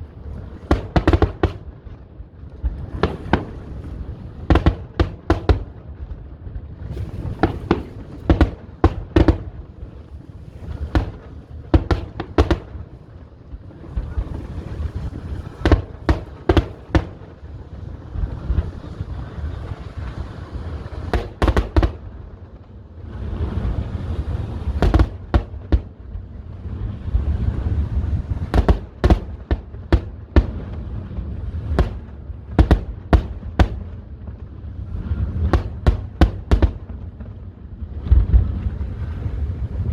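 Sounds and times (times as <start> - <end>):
fireworks bursting with sharp bangs: 0.0 - 39.9
low rumbling background: 0.0 - 39.9.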